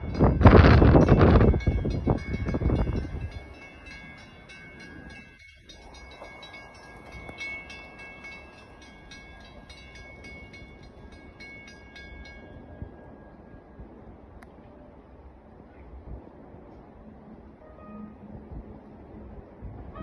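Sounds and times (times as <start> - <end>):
distant train rumble: 0.0 - 20.0
loud train sound: 0.0 - 20.0.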